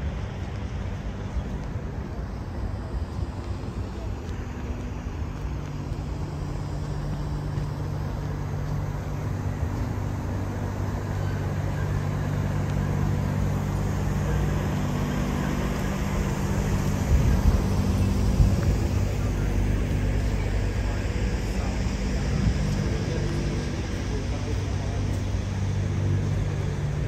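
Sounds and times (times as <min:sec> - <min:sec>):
city street traffic: 0:00.0 - 0:27.0
vehicle engine humming: 0:00.0 - 0:27.0.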